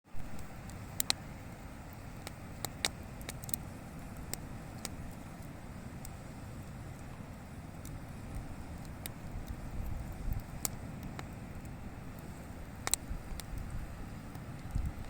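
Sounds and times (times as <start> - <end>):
campfire crackling and popping: 0.2 - 15.0
steady low rumble: 0.2 - 15.0.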